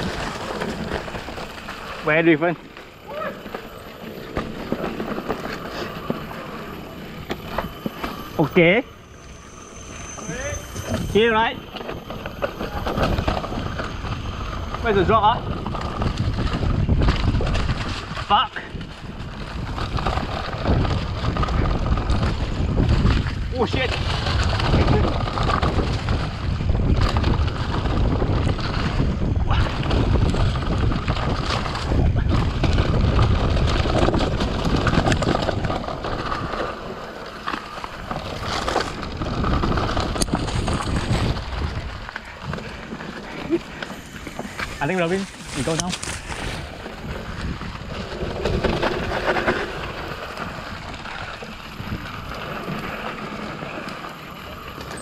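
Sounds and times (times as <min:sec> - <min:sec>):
bike knocks and rattles: 0:00.0 - 0:08.8, 0:14.9 - 0:55.0
tyres rumbling on dirt: 0:00.0 - 0:55.0
wind buffeting microphone: 0:02.6 - 0:55.0.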